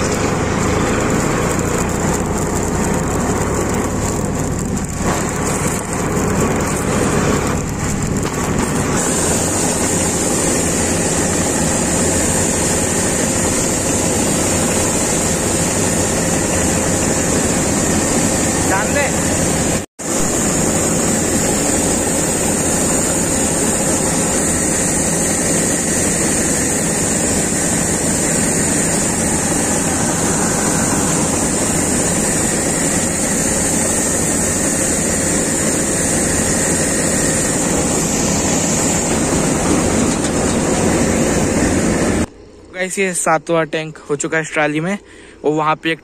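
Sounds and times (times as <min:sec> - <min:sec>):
grain pouring hiss: 0:00.0 - 0:42.3
combine harvester drone: 0:00.0 - 0:46.0.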